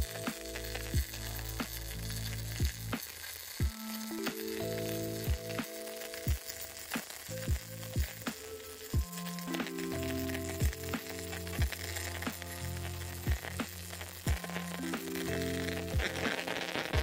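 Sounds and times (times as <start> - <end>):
background music with steady beat: 0.0 - 17.0
welding arc crackling and sizzling: 0.0 - 17.0.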